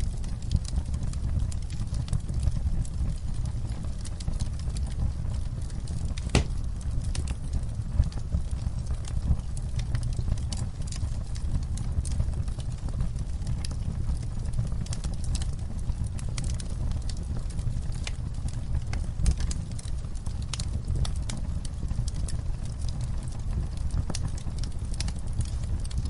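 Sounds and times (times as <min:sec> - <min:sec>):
campfire crackling and popping: 0:00.0 - 0:26.0
low fire rumble: 0:00.0 - 0:26.0.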